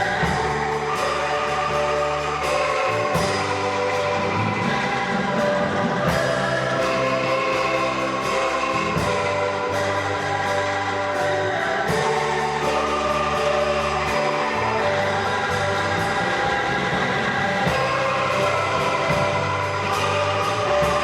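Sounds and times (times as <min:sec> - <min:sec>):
bamboo tubes rattling in chords: 0:00.0 - 0:21.0.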